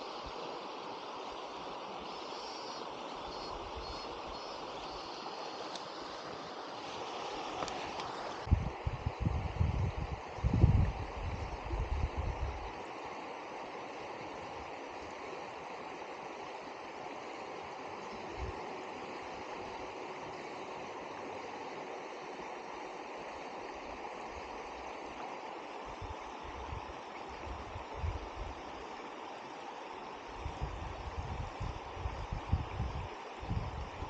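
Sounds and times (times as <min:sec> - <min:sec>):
river water rushing over stones: 0:00.0 - 0:08.9, 0:10.1 - 0:34.0.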